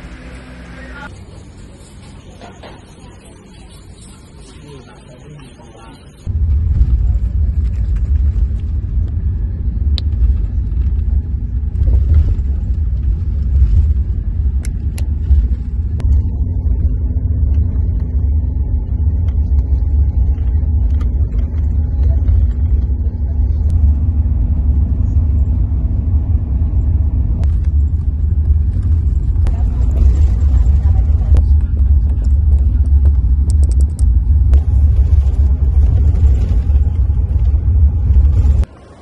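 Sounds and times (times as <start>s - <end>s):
bus engine low rumble: 0.0s - 39.0s.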